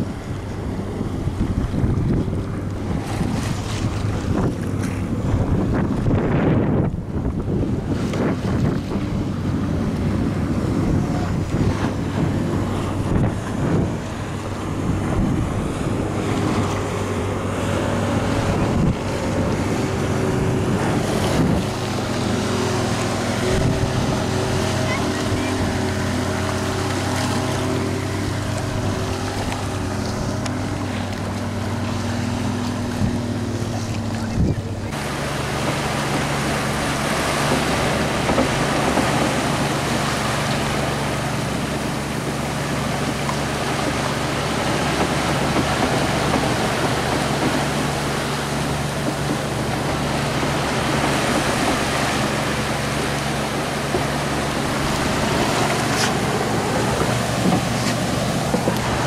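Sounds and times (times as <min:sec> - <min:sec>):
boat engine running: 0:00.0 - 0:59.0
water wash of wake: 0:00.0 - 0:59.0
wind on microphone: 0:00.0 - 0:59.0.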